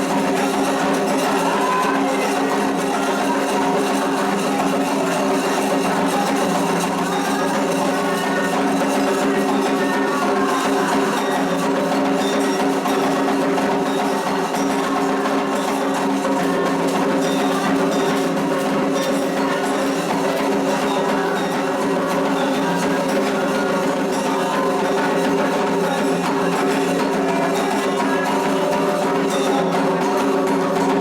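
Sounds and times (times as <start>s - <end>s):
agogo bell rhythm: 0.0s - 31.0s.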